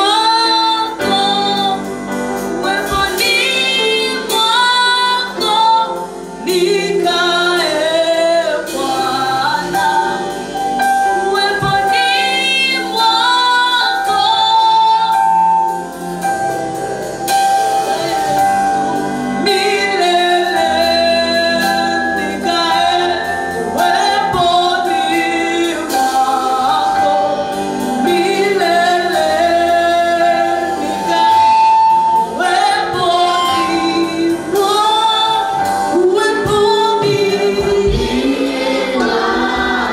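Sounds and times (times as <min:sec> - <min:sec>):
group singing gospel song: 0:00.0 - 0:39.9
instrumental accompaniment: 0:00.0 - 0:39.9.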